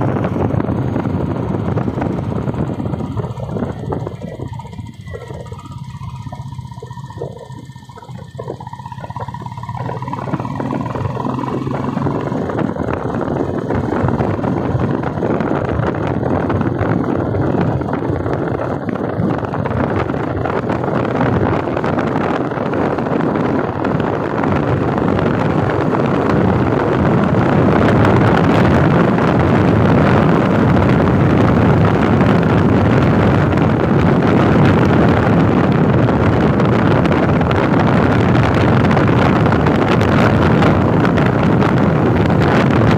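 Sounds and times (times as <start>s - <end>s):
motorcycle engine: 0.0s - 42.9s
wind rush on microphone: 0.0s - 42.9s.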